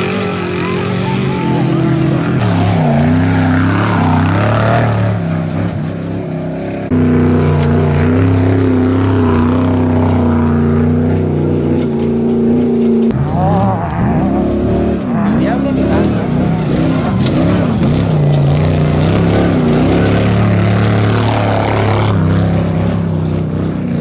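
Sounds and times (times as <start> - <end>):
truck engines revving loudly: 0.0 - 24.0.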